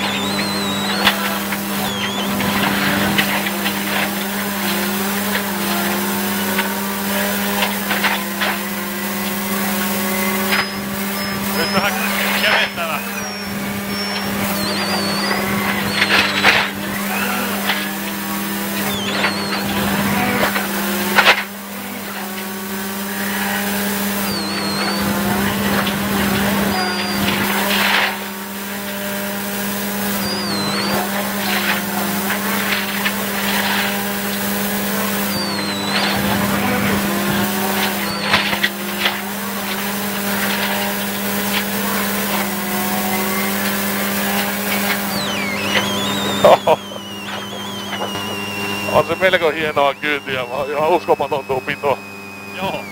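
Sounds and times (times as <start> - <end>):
tyres on gravel: 0.0 - 52.9.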